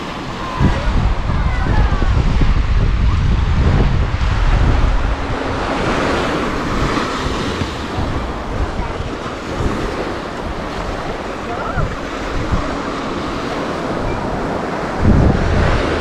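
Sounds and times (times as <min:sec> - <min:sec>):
small waves breaking on sand: 0:00.0 - 0:16.0
wind buffeting microphone: 0:00.0 - 0:16.0.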